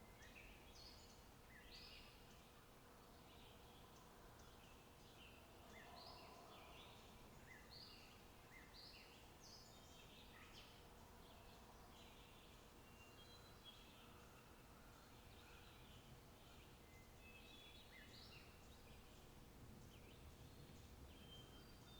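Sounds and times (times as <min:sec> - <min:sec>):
low steady hiss: 0:00.0 - 0:21.9.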